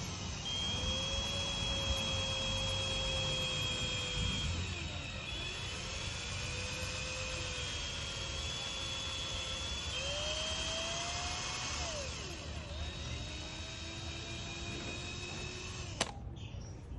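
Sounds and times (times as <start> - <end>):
power drill whining: 0.0 - 16.2.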